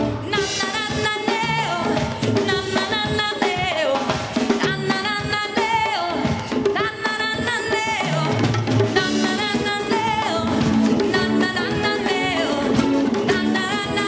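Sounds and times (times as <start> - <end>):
rock band playing: 0.0 - 14.0
woman singing: 0.0 - 14.0.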